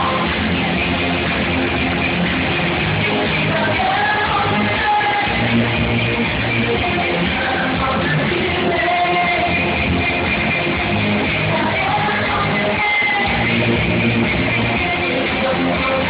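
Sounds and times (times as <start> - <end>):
person singing: 0.0 - 2.1, 3.0 - 16.0
electric guitar: 0.0 - 16.0.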